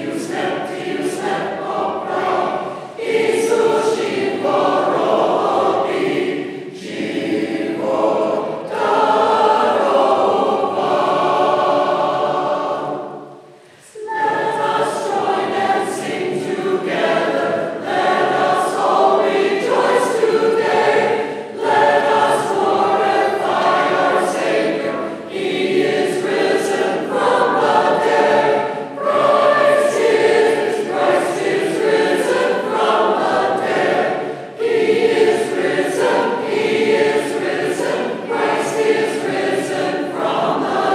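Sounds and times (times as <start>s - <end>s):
church choir singing a hymn: 0.0s - 40.9s.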